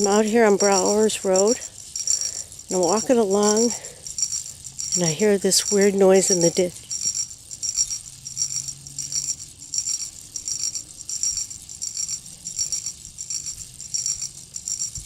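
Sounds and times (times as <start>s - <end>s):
insect rasping buzzes: 0.0s - 15.0s.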